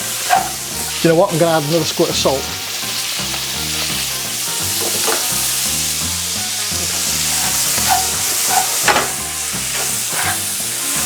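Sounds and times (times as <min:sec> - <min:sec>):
prawns sizzling in hot oil: 0:00.0 - 0:11.0.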